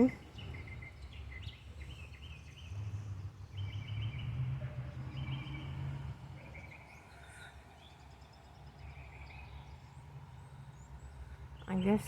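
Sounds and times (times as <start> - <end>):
low rumble: 0.0 - 12.0
songbird chirping: 0.0 - 12.0.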